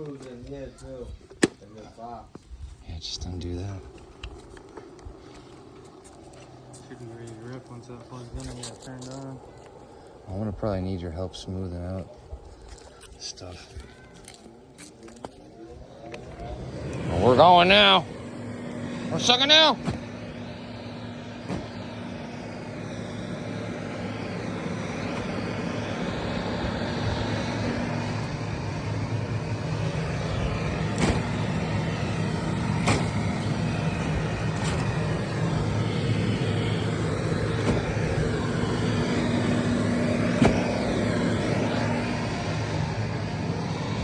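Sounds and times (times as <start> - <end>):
vacuum motor running: 3.0 - 44.0.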